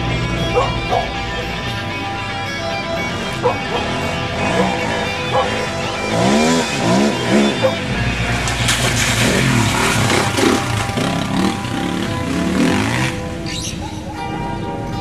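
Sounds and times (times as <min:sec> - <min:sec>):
motocross bike engines revving: 0:00.0 - 0:13.9.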